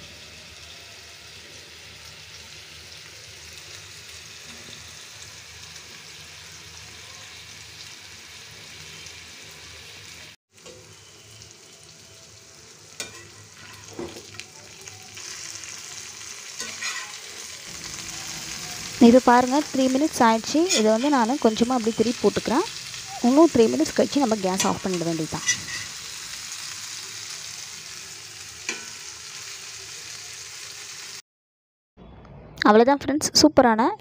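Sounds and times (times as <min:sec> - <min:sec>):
prawns sizzling in oil: 0:00.0 - 0:31.2.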